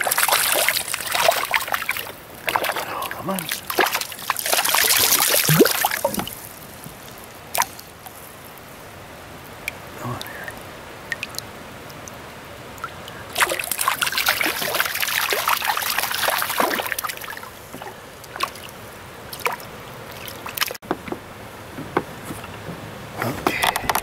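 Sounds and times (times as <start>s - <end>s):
water dripping: 0.0s - 8.8s, 9.4s - 20.8s
water splashing and sloshing: 0.0s - 24.0s.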